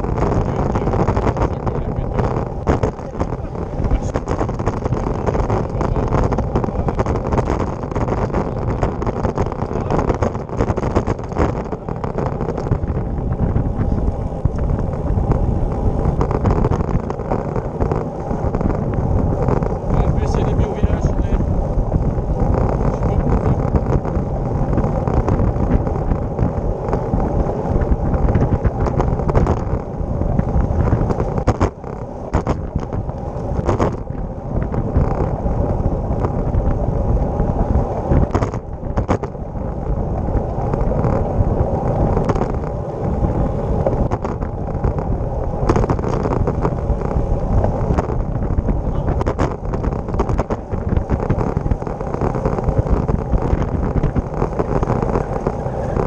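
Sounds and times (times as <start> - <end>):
bike rattling over bumps: 0.0 - 56.0
tyre rumble on asphalt: 0.0 - 56.0
wind on microphone: 0.0 - 56.0.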